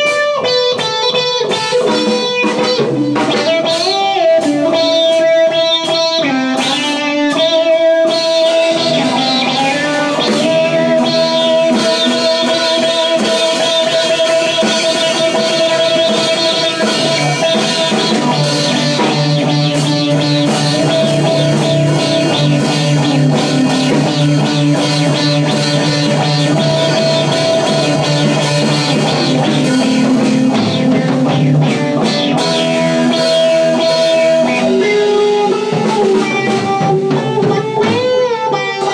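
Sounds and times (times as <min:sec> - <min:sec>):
drum kit: 0:00.0 - 0:38.9
electric guitar blues-rock jam: 0:00.0 - 0:38.9.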